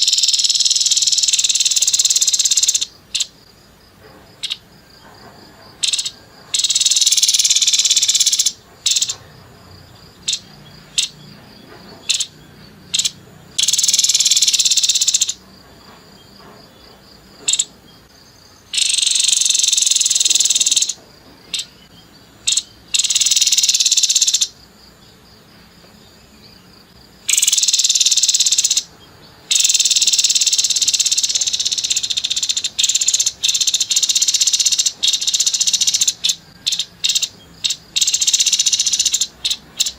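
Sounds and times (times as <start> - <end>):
bird harsh rattling calls: 0.0 - 3.4, 4.4 - 4.7, 5.8 - 9.4, 10.1 - 15.4, 17.4 - 24.6, 27.2 - 39.9.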